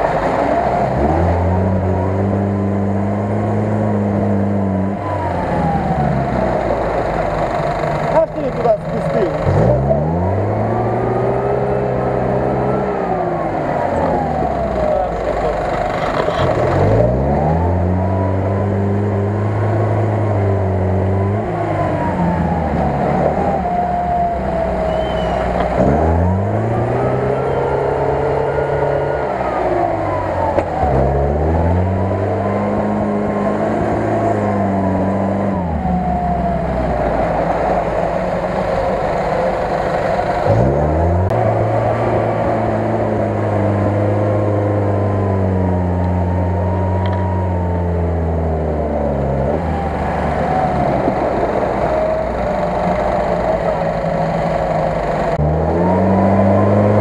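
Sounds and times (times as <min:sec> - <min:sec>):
engine revving under load: 0:00.0 - 0:57.0.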